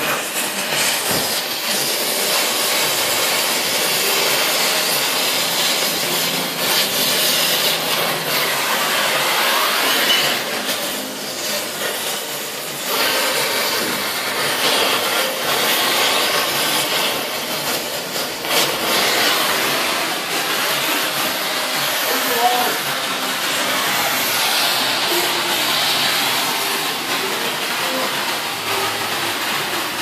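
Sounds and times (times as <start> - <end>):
cutting torch flame hissing: 0.0 - 30.0.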